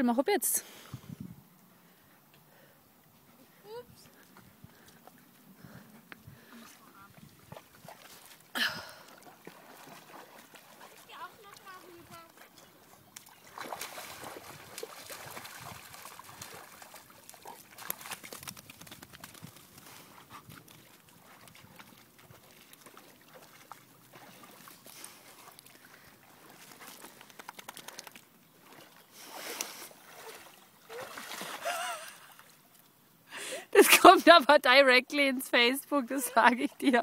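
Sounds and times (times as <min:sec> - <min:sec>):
pond water sloshing and splashing: 0:03.0 - 0:33.3.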